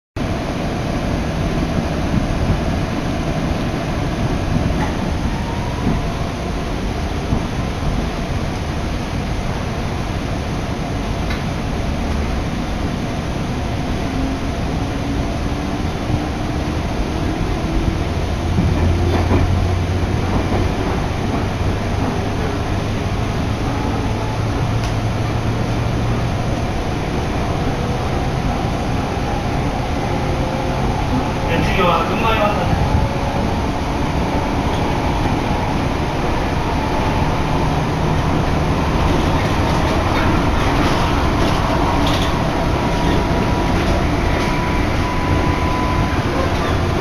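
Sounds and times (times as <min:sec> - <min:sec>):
train rumble from inside: 0:00.2 - 0:47.0.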